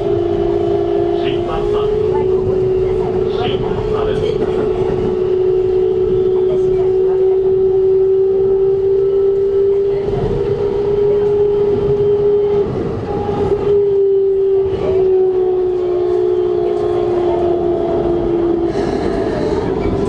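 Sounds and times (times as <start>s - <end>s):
train inverter whine: 0.0s - 20.0s
train rail and running noise: 0.0s - 20.0s.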